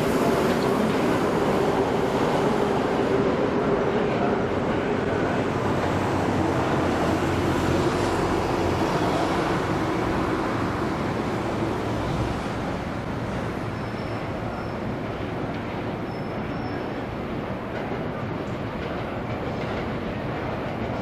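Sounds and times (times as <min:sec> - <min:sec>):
city traffic: 0:00.0 - 0:21.0
train rumbling on tracks: 0:00.0 - 0:21.0.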